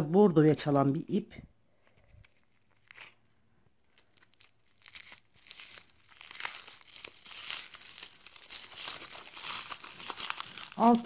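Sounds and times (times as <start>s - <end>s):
plastic wrapping crinkling: 1.8s - 11.0s.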